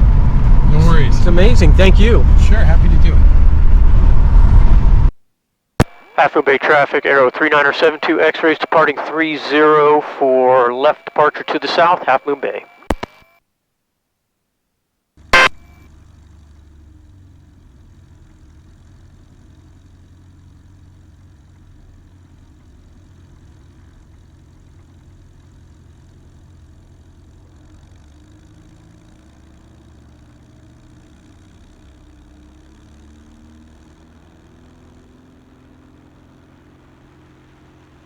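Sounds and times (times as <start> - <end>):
aircraft piston engine droning: 0.0 - 5.1, 6.0 - 12.6, 15.9 - 38.0.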